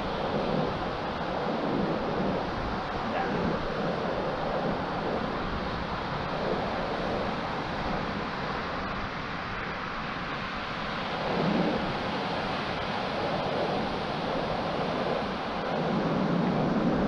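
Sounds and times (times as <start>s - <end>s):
surf: 0.0s - 17.0s
wind rumbling on microphone: 0.0s - 17.0s.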